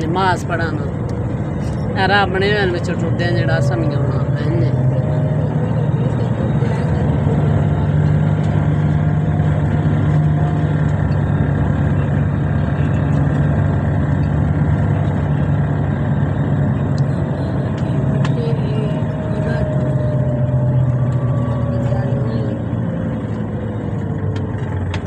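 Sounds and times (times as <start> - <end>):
vehicle engine hum: 0.0 - 25.0.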